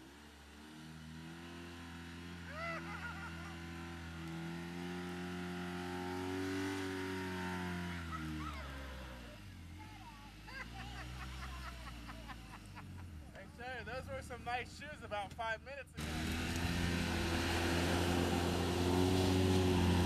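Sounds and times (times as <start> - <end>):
utility vehicle engine under load: 0.0 - 13.8, 16.0 - 20.0.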